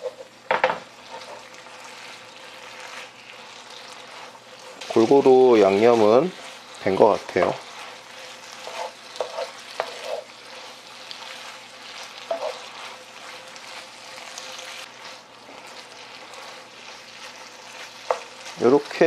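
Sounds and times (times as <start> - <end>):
spatula scraping a pan: 0.0 - 19.0
squid sizzling in a frying pan: 0.0 - 19.0.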